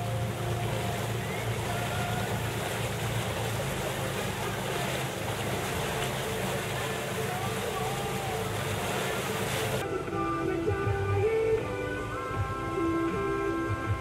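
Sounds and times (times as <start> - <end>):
motorboat engine humming: 0.0 - 14.0
water noise: 0.0 - 14.0.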